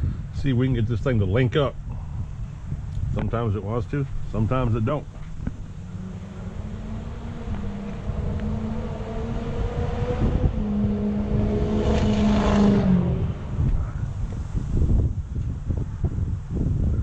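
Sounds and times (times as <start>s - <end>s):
engine humming: 0.0s - 15.9s.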